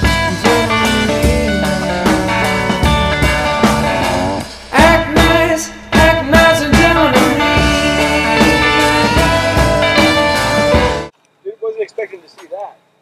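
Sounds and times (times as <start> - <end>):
rock music with guitar and drums: 0.0 - 11.1.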